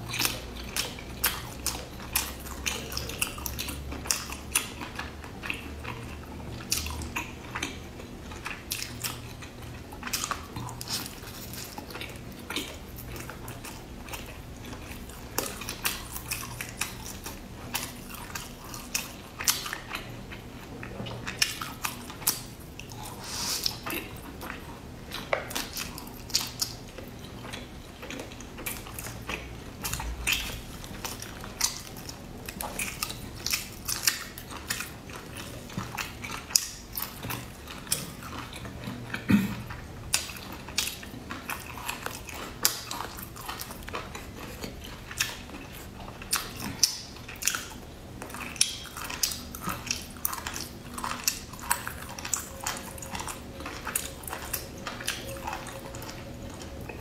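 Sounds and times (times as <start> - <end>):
chewing wet mouth sounds: 0.0 - 57.0.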